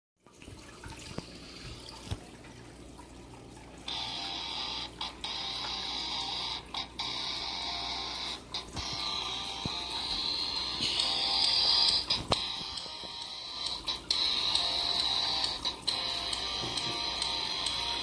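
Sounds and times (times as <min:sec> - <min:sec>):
aquarium water bubbling: 0:00.2 - 0:18.0.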